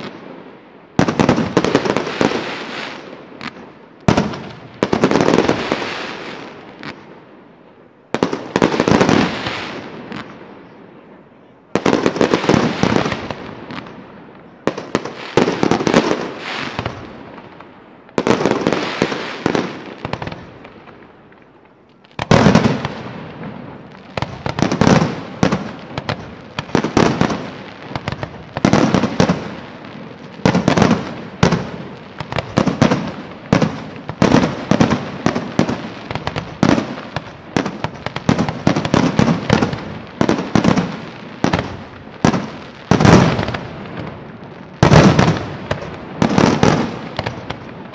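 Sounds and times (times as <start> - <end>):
fireworks bangs echoing: 0.0 - 47.9.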